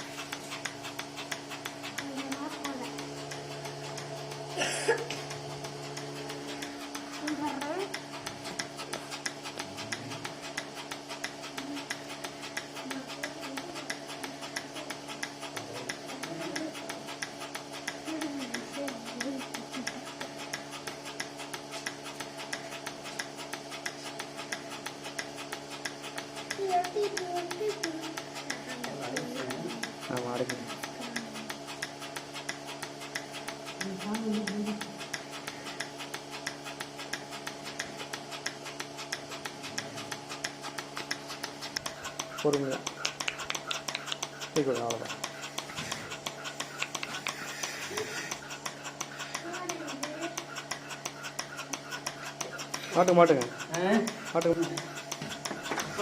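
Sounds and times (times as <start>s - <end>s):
pulsator clicking: 0.0s - 56.0s
vacuum pump humming: 0.0s - 56.0s.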